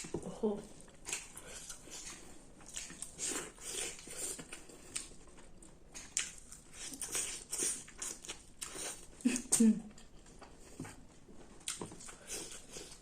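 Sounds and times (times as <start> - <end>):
person chewing and biting food: 0.8 - 9.2, 10.4 - 13.0.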